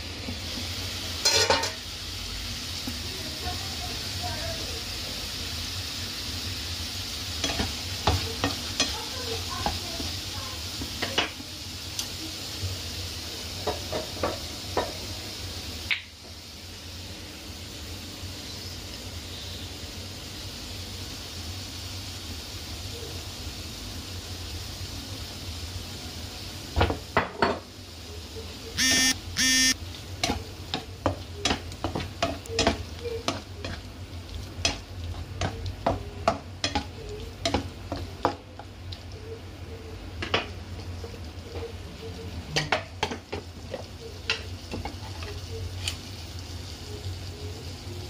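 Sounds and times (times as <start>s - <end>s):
chicken sizzling in a frying pan: 0.0s - 48.0s.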